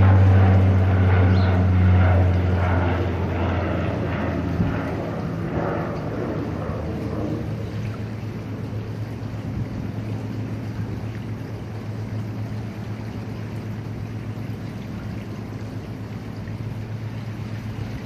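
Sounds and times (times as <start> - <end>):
continuous rushing noise: 0.0 - 18.0
low engine hum: 0.0 - 18.0.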